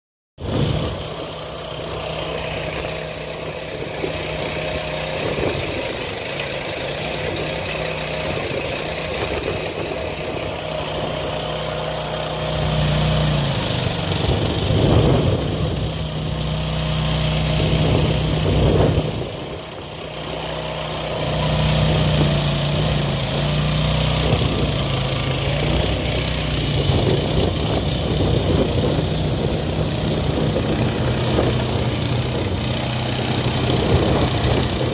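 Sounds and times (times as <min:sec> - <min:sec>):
excavator engine running: 0:00.4 - 0:34.9.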